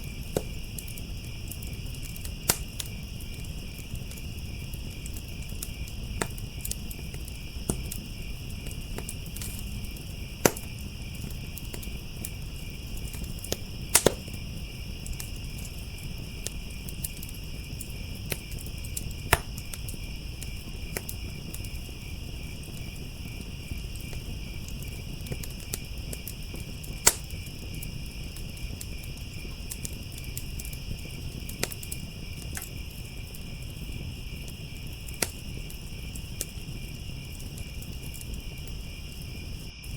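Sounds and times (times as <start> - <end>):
crickets trilling: 0.0 - 39.9
wood fire crackling and popping: 0.0 - 39.9.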